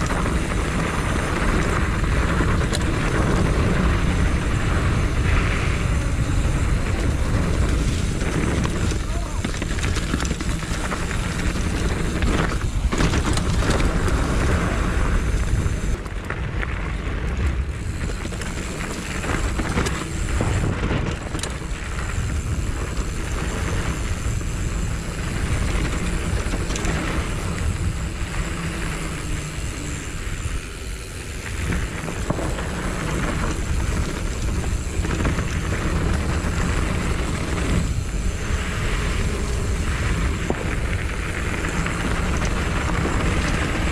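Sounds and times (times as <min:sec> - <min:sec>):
bike knocks and rattles: 0:00.0 - 0:43.9
bike tyre rumble: 0:00.0 - 0:43.9.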